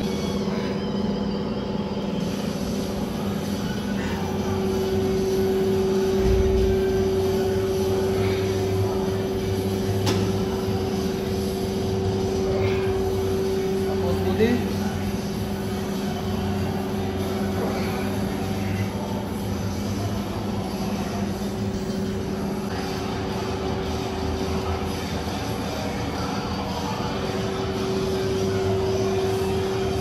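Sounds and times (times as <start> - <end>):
mechanical hum with held tone: 0.0 - 30.0.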